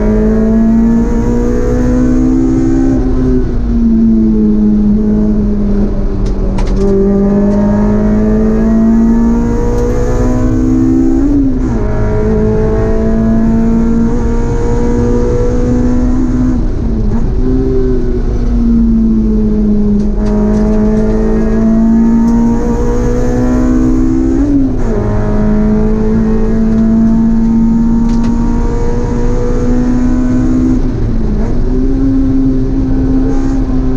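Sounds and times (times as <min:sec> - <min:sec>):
car engine revving: 0:00.0 - 0:33.9
road and tyre noise: 0:00.0 - 0:33.9.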